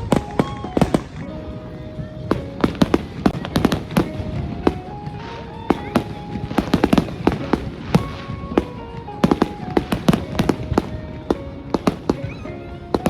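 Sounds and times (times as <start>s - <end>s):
fireworks bangs and cracks: 0.0s - 13.0s
music playing: 0.0s - 13.0s.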